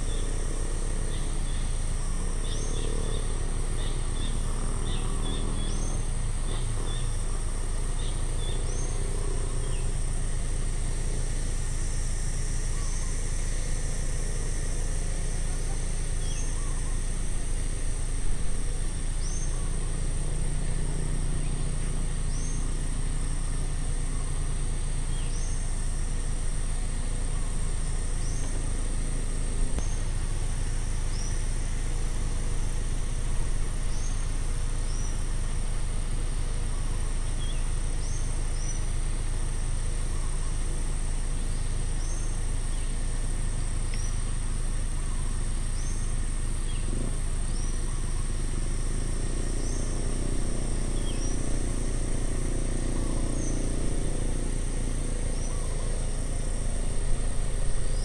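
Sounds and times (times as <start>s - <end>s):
insect drone: 0.0s - 58.0s
road traffic rumble: 0.0s - 58.0s.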